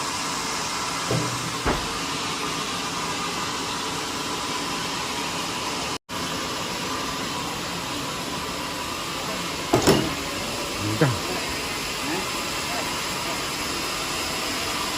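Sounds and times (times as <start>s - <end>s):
sawmill machine hissing: 0.0s - 14.9s.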